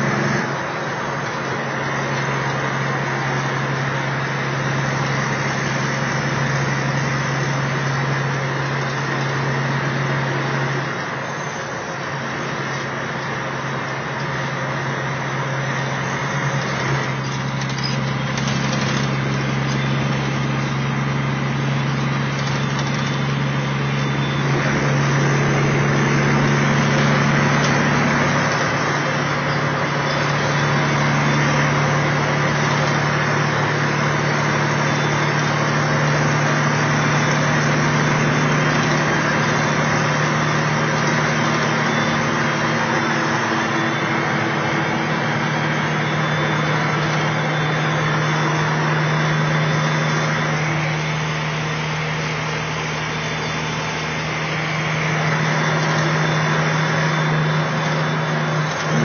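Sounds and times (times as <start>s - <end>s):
diesel engine drone: 0.0s - 59.0s
tyre and road noise: 0.0s - 59.0s.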